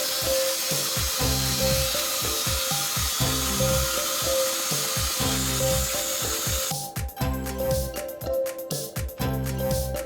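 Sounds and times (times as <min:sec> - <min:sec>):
background music with bass: 0:01.0 - 0:04.4, 0:05.0 - 0:10.0.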